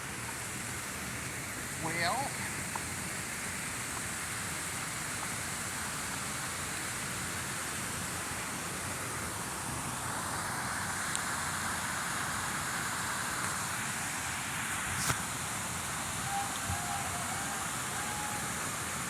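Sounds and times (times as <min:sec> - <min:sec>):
rain hissing: 0:00.0 - 0:19.0
traffic on wet road: 0:00.0 - 0:19.0.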